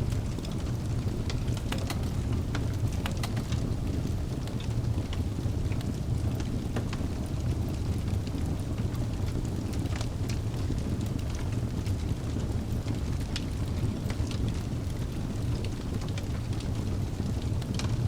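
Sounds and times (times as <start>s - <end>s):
burning logs crackling and popping: 0.0s - 18.0s
low rumble of flames: 0.0s - 18.0s.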